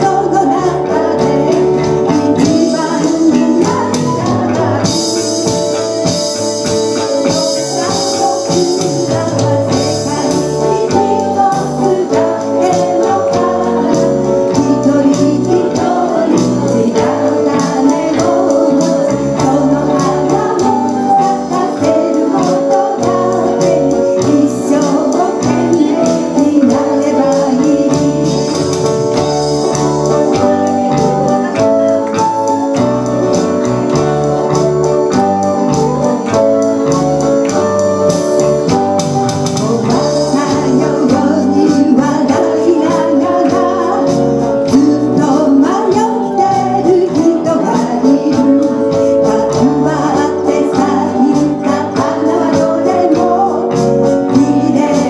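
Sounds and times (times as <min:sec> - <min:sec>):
woman singing into microphone: 0:00.0 - 0:34.0, 0:39.5 - 0:55.0
live band playing: 0:00.0 - 0:55.0.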